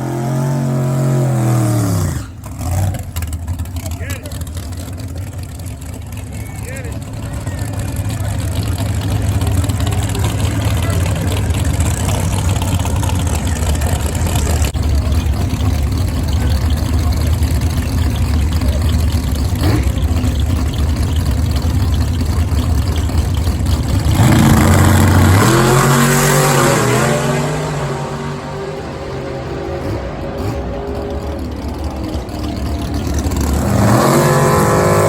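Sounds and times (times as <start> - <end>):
race engines rumbling: 0.0 - 35.0.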